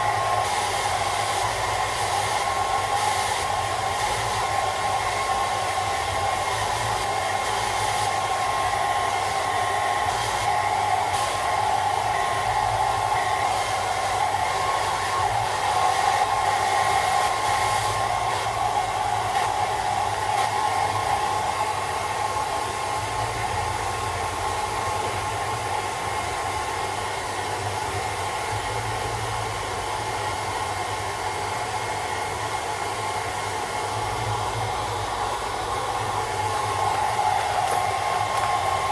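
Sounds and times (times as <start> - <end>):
hairdryer blowing air: 0.0 - 38.9.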